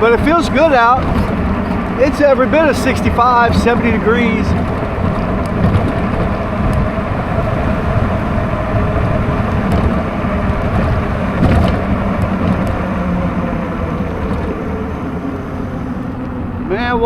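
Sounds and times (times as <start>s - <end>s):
rushing wind: 0.0s - 17.0s
steady hum: 0.0s - 17.0s
tyres on wet road: 0.0s - 17.0s.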